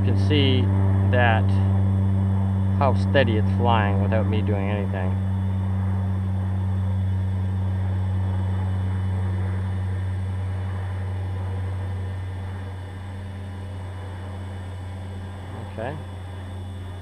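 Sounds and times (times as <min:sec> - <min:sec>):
drone motors low hum: 0:00.0 - 0:17.0.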